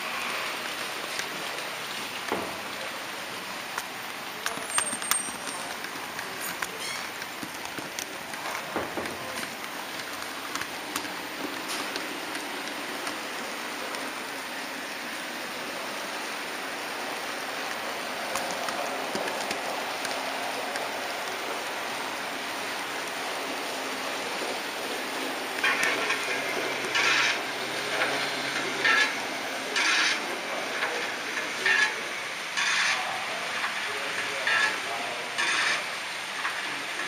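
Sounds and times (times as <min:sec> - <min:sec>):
model train wheels and motor rattling: 0:00.0 - 0:37.0.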